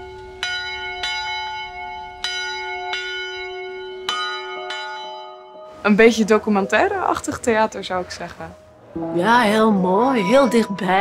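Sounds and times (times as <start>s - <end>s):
church bells ringing: 0.0s - 7.9s, 8.6s - 11.0s.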